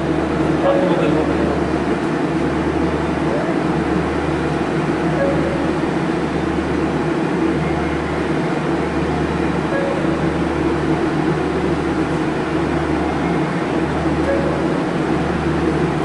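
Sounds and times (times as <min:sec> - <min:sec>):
air conditioning hum and hiss: 0:00.0 - 0:16.0.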